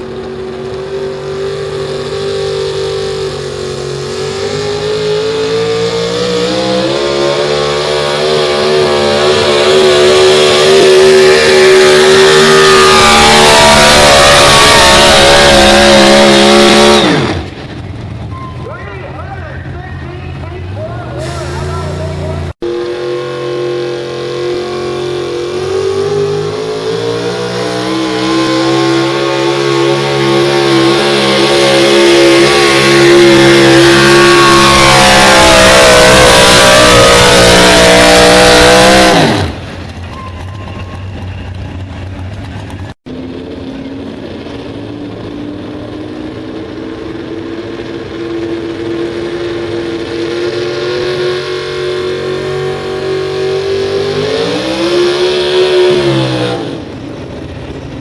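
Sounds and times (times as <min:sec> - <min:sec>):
engine revving: 0:00.0 - 0:58.0
truck engine running flat out: 0:00.0 - 0:58.0.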